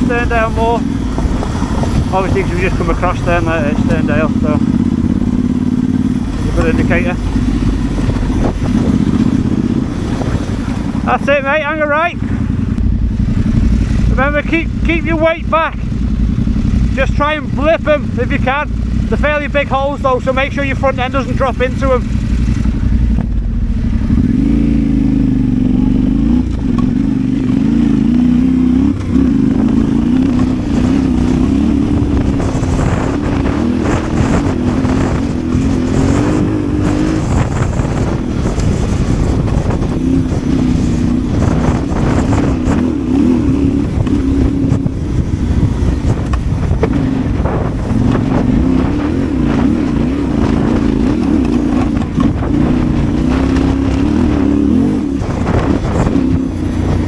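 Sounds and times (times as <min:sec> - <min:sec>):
motorcycle knocking and rattling: 0:00.0 - 0:11.2, 0:12.2 - 0:15.2, 0:15.8 - 0:36.0, 0:36.8 - 0:54.3
motorcycle engine at low revs: 0:00.0 - 0:57.0.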